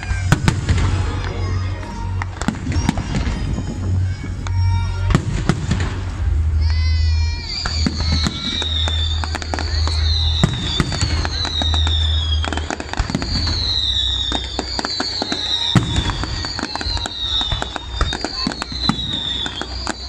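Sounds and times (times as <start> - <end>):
fireworks bangs and crackles: 0.0 - 20.0
high falling whistle: 0.0 - 20.0
low rumble: 0.0 - 20.0.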